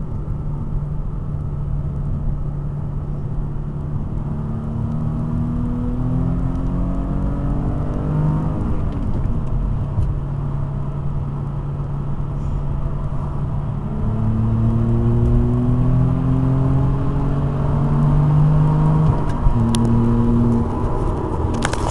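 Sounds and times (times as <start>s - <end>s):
car engine accelerating hard: 2.6s - 21.9s.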